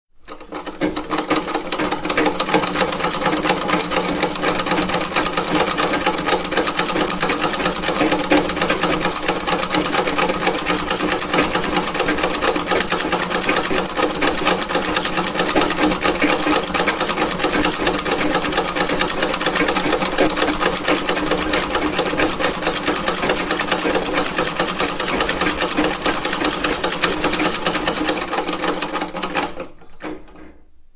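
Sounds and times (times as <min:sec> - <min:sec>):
sewing machine clattering: 0:00.2 - 0:30.7.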